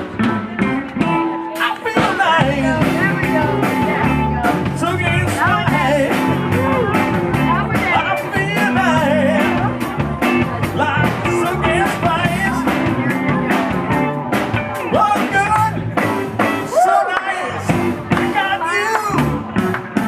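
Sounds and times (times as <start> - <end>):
drums keeping steady beat: 0.0 - 20.0
rock band playing: 0.0 - 20.0.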